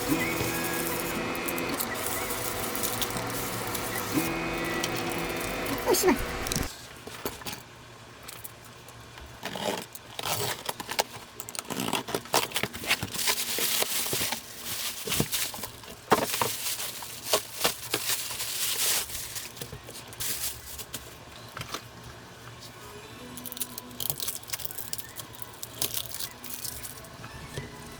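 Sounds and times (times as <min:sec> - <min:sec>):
crinkling and rustling: 0:00.0 - 0:07.6, 0:09.2 - 0:22.7, 0:23.4 - 0:27.8.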